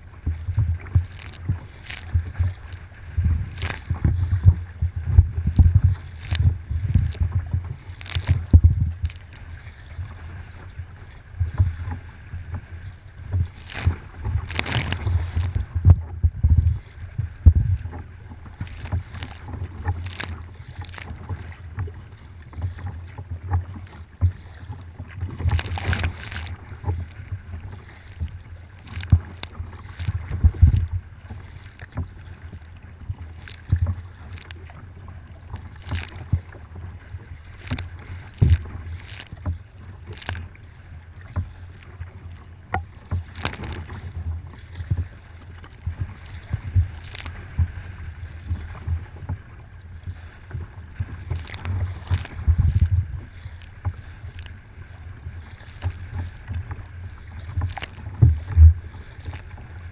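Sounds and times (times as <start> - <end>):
paddle splashing water: 0.0 - 59.9
waves washing against hull: 0.0 - 59.9
wind rumbling on microphone: 0.0 - 59.9.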